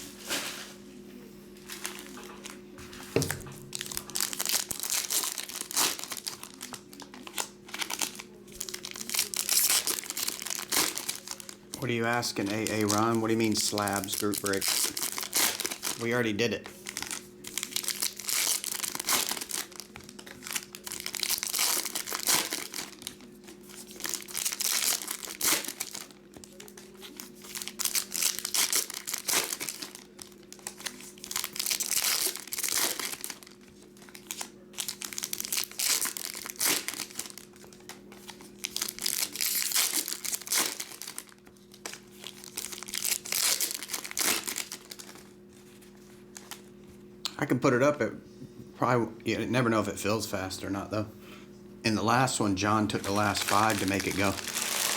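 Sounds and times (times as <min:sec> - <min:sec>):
plastic wrapping crinkling and tearing: 0:01.6 - 0:02.6, 0:03.2 - 0:46.7, 0:52.1 - 0:54.9.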